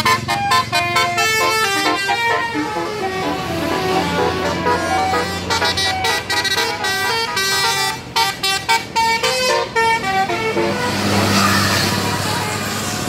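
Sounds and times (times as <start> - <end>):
multi-tone bus air horn tune: 0.0 - 13.0.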